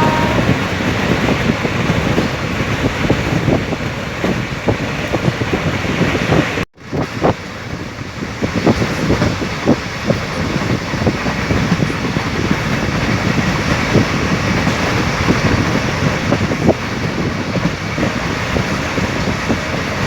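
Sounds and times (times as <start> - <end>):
train rumble and rush: 0.0 - 20.0.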